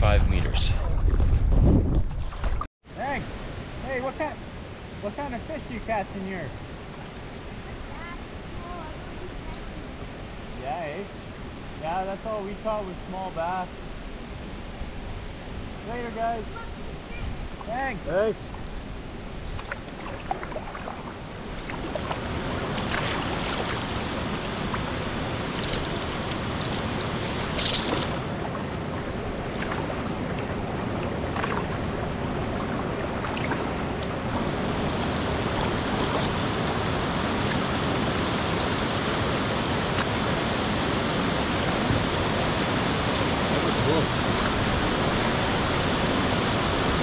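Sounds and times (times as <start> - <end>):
rushing water: 0.0 - 47.0.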